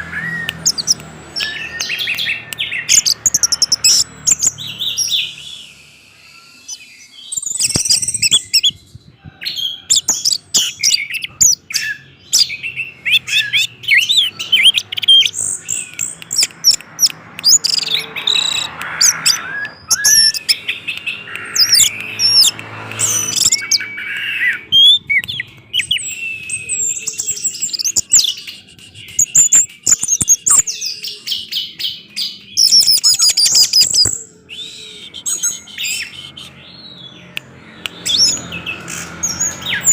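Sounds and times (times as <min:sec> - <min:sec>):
thrush singing whistled phrases: 0:00.0 - 0:08.8, 0:09.8 - 0:39.9.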